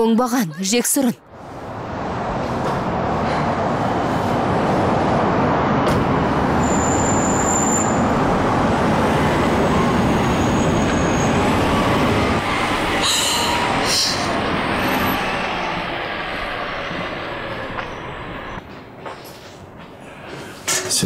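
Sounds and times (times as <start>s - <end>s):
moving vehicle rumbling: 1.2s - 21.0s.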